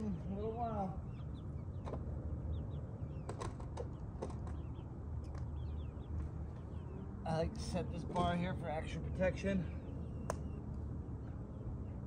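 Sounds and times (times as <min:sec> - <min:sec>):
bird chirps: 0:00.0 - 0:07.4, 0:09.7 - 0:12.0.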